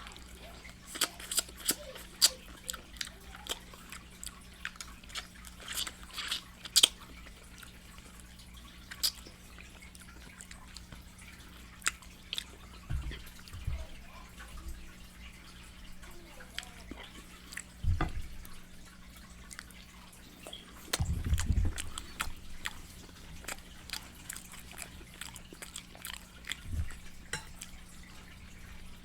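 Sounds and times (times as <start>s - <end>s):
wet chewing and lip-smacking: 0.0s - 14.7s, 15.6s - 29.0s
faint low hum: 0.0s - 29.0s.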